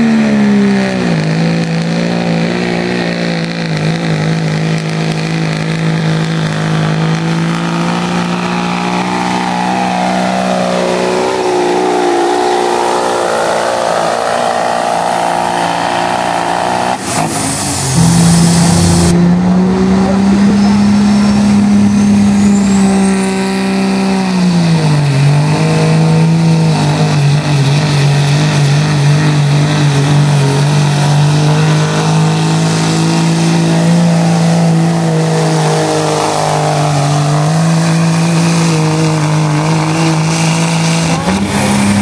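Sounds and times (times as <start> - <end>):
diesel truck engine at full throttle: 0.0 - 42.0.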